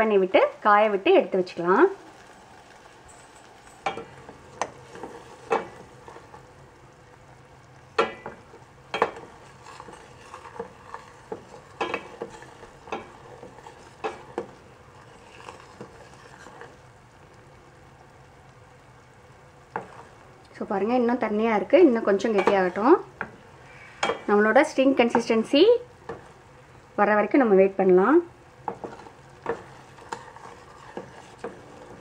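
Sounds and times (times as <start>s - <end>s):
syrup bubbling with hiss: 1.3s - 32.0s.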